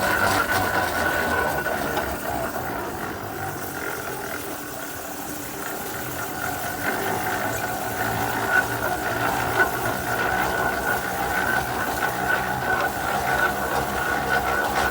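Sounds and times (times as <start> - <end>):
steam traction engine running: 0.0 - 14.9.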